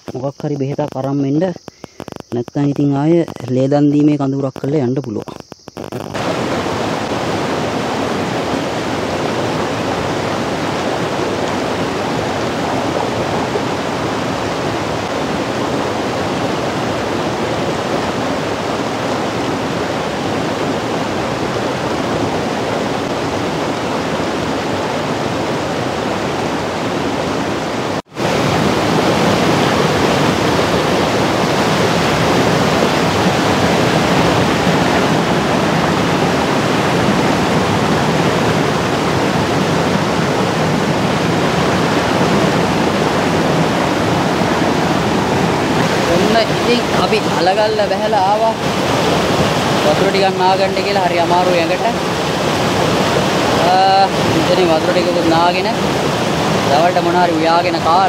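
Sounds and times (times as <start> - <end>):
stream rushing over rocks: 5.8 - 58.0.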